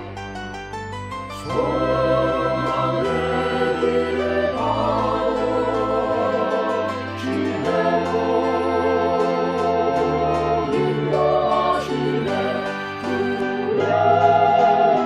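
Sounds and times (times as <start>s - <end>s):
organ chords: 0.0s - 15.0s
choir singing: 1.4s - 15.0s.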